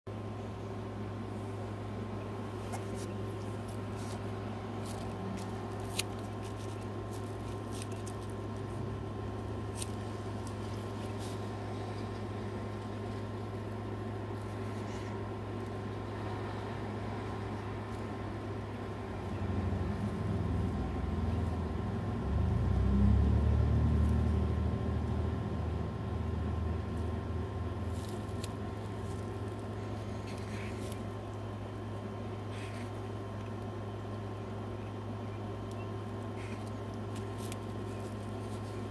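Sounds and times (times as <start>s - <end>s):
low mechanical hum: 0.1s - 38.9s.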